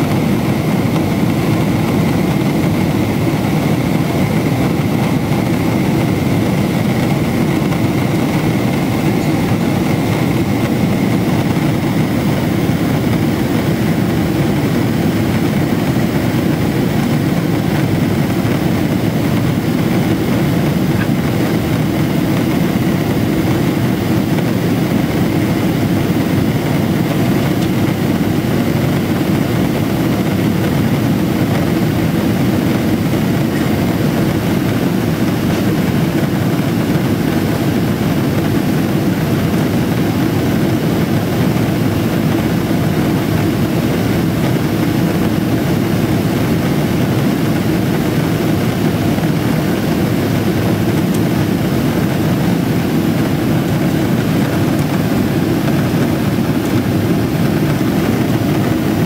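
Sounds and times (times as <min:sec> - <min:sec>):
low drone of jet engines: 0:00.0 - 0:59.0.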